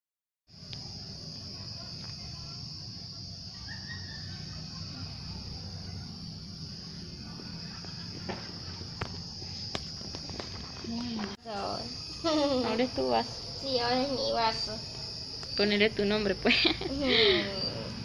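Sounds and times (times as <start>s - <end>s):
insects chirring: 0.5s - 18.0s.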